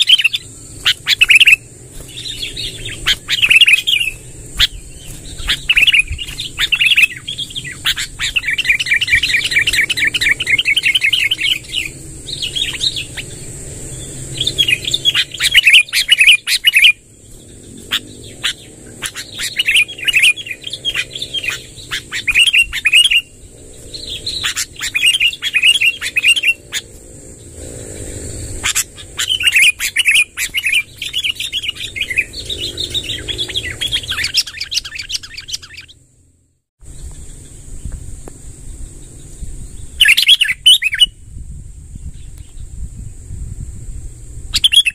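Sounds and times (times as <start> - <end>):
bird singing trilled phrases: 0.0 - 36.1, 38.7 - 41.3, 44.5 - 44.9
steady high hiss: 0.0 - 44.9.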